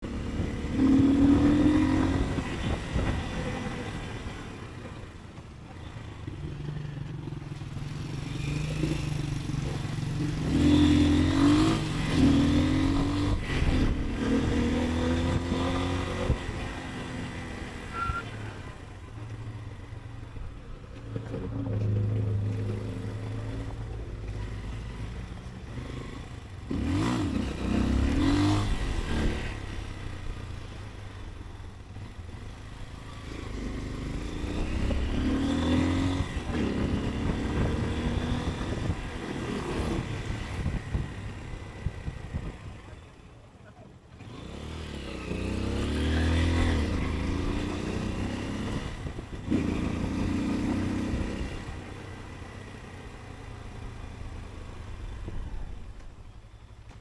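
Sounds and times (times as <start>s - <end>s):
motorcycle engine accelerating: 0.0s - 57.0s
road and traffic noise: 0.0s - 57.0s.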